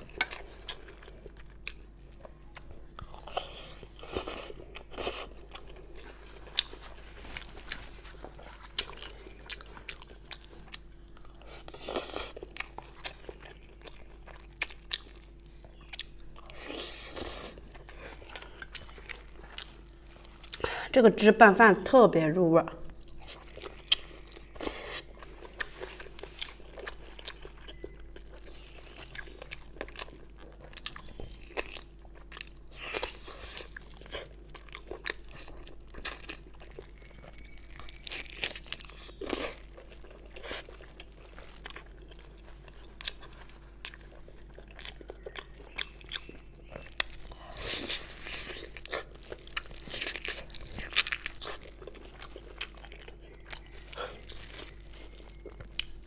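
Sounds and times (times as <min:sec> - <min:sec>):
person chewing food: 0:00.0 - 0:20.9, 0:22.8 - 0:56.0.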